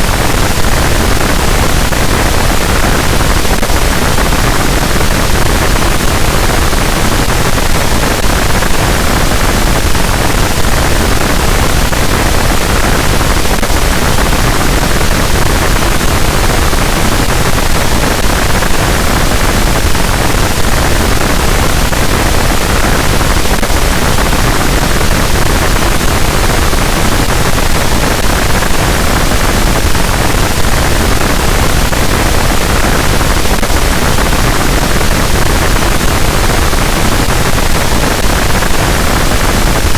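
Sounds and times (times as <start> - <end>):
wall of distorted static noise: 0.0 - 39.9.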